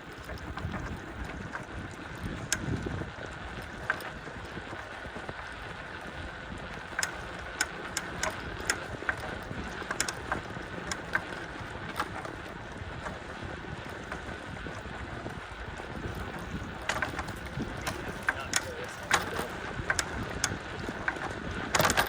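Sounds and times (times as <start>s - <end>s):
bicycle clicks and rattles: 0.0s - 22.0s
bicycle tyres rolling: 0.0s - 22.0s
wind buffeting microphone: 0.0s - 22.0s.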